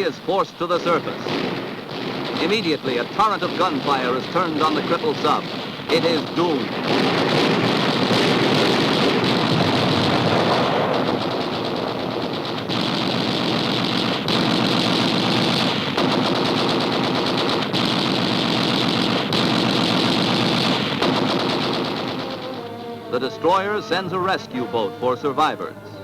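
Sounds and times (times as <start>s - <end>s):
rapid machine-gun fire: 0.8s - 24.3s.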